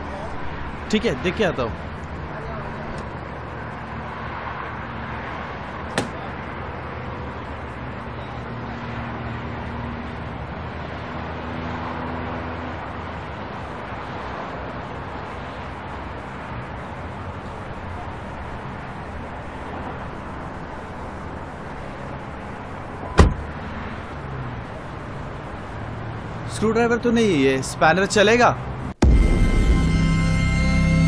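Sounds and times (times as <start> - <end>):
road traffic hum: 0.0 - 31.0.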